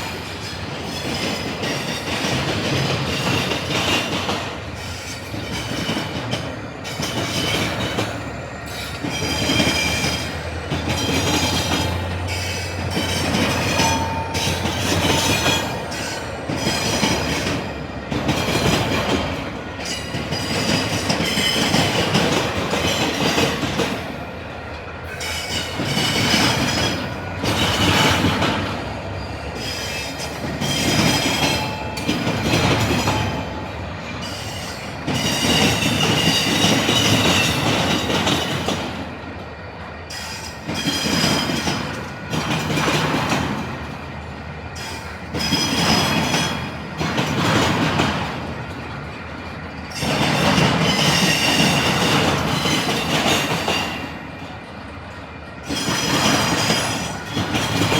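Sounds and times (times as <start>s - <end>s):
train wheels clanking over crossing: 0.0s - 57.9s.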